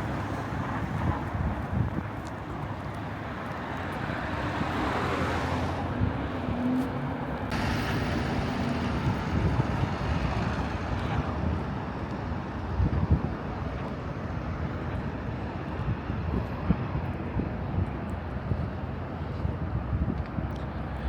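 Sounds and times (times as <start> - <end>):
road traffic passing: 0.0 - 21.0
wind rumble on microphone: 0.0 - 21.0.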